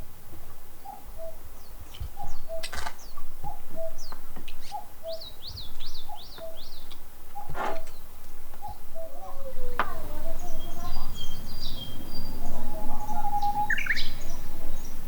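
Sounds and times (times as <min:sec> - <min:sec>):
higher bird chirps: 0:00.8 - 0:15.0.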